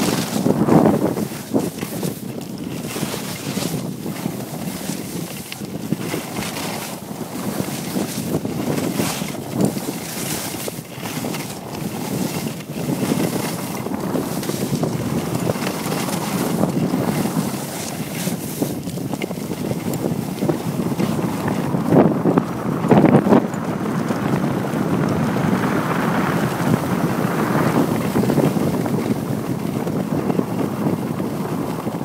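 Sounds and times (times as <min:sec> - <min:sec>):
skis scraping over snow: 0:00.0 - 0:32.0
wind buffeting microphone: 0:00.0 - 0:32.0.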